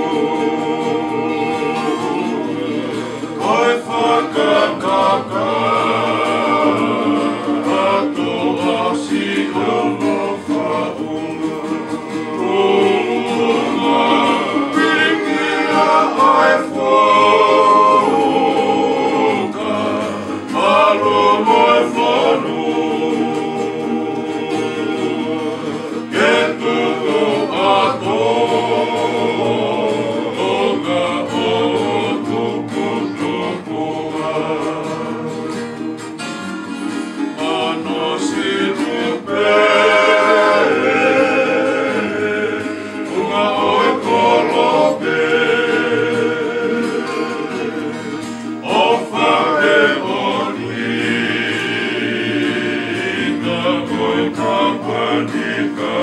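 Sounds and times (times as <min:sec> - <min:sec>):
men singing in harmony: 0:00.0 - 0:56.0
strummed acoustic guitars: 0:00.0 - 0:56.0
ukulele: 0:00.0 - 0:56.0.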